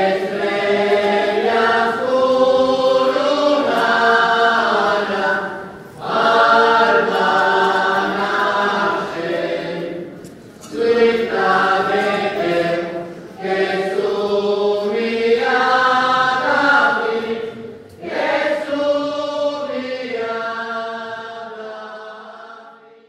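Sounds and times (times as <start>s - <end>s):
group singing a hymn: 0.0s - 23.0s.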